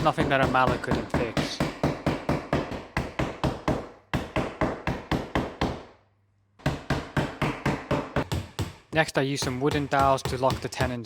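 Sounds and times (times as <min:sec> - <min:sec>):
rubber mallet tapping wood: 0:00.0 - 0:05.9, 0:06.6 - 0:11.0.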